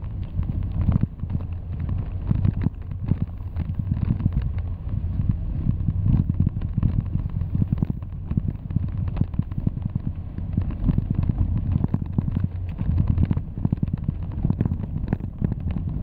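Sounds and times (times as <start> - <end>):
crackles and knocks: 0.0 - 16.0
road and tyre rumble: 0.0 - 16.0.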